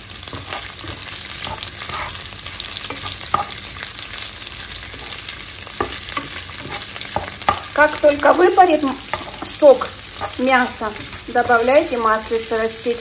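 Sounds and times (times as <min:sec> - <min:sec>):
meat sizzling in oil: 0:00.0 - 0:13.0
spatula scraping and tapping pan: 0:00.3 - 0:03.7, 0:04.9 - 0:12.5.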